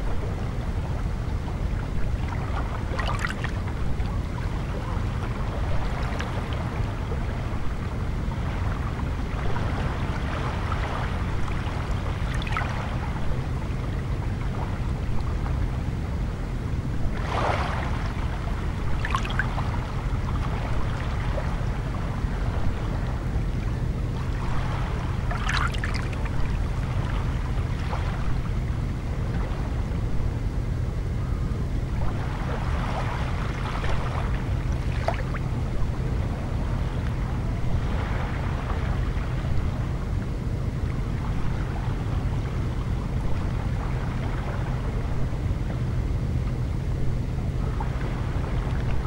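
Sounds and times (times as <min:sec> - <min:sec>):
steady low rumble: 0:00.0 - 0:49.0
soft water splashes: 0:01.4 - 0:15.6, 0:17.0 - 0:30.3, 0:31.9 - 0:45.8.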